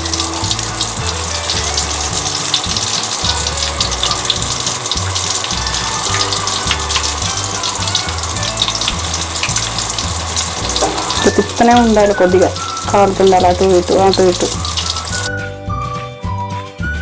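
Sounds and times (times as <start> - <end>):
chicken sizzling in oil: 0.0 - 15.3
background music with bass line: 0.0 - 17.0.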